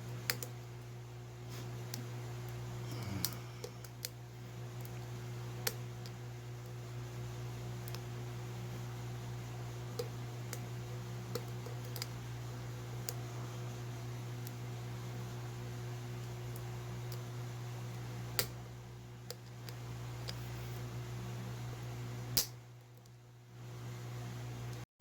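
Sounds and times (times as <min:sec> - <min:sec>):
steady low hum: 0:00.0 - 0:24.8.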